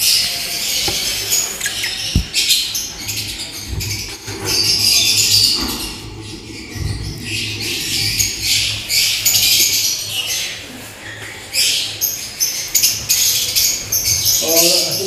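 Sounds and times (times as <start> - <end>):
lovebirds chattering and squawking: 0.0 - 15.0.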